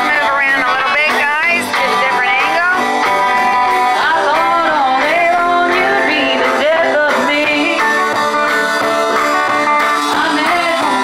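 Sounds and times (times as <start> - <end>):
woman singing: 0.0 - 2.8, 3.8 - 8.8, 9.9 - 11.0
bass guitar: 0.0 - 11.0
electric guitars: 0.0 - 11.0.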